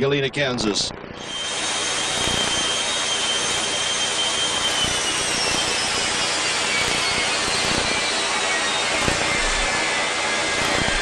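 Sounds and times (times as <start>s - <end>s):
jet engines roaring with whine: 0.0s - 11.0s.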